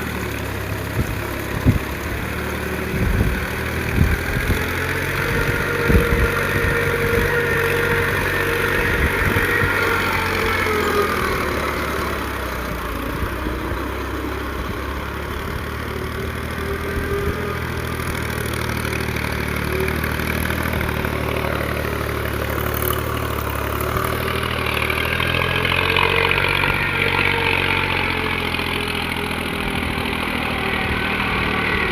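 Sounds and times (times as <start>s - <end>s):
engine whine: 0.0s - 31.9s
tractor diesel engine running: 0.0s - 31.9s.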